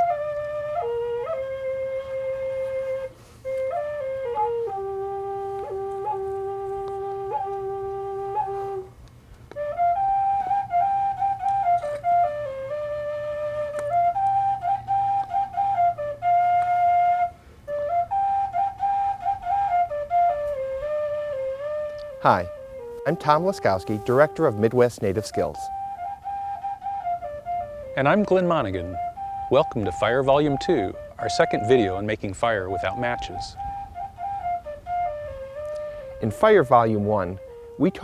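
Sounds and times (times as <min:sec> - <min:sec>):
solo flute melody: 0:00.0 - 0:38.0.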